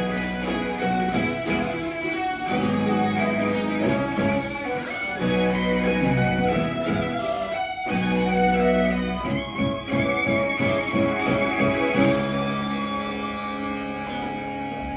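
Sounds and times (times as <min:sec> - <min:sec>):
plucked guitar notes: 0:00.0 - 0:14.9.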